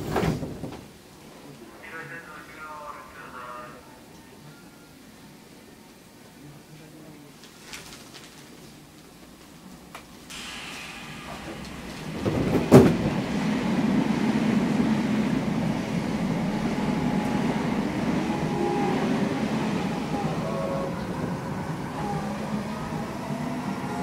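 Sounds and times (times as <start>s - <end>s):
train rumbling on rails: 0.0s - 4.4s, 8.8s - 24.0s.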